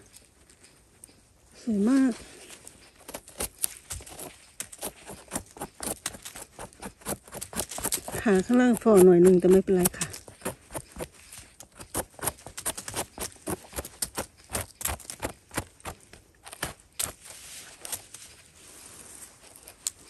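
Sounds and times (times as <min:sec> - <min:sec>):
dry leaves and twigs crackling: 0:00.0 - 0:20.0.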